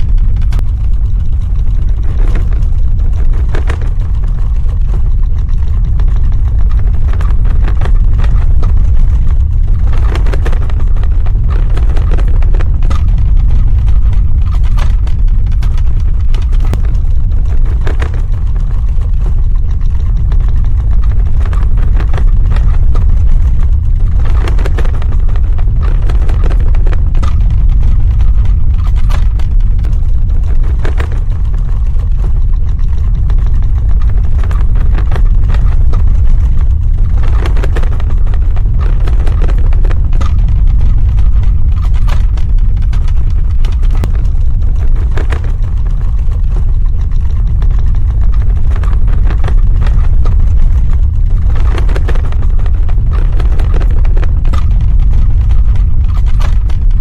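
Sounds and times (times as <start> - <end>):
crackles and rattles: 0.0 - 57.0
deep rumble: 0.0 - 57.0.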